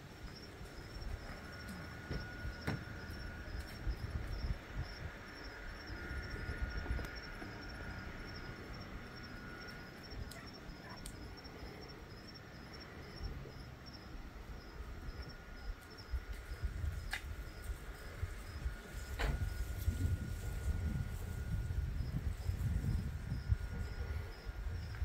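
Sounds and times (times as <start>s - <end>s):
high insect trill: 0.0s - 25.0s
insect chirping: 0.0s - 25.0s
low rumble: 0.4s - 12.4s, 13.1s - 25.0s.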